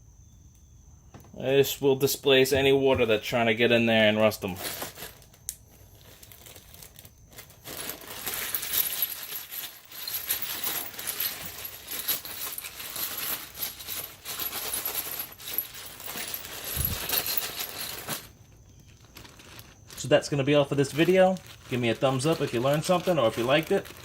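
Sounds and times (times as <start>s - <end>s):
nuts and bolts rattling in a bag: 2.4s - 24.0s.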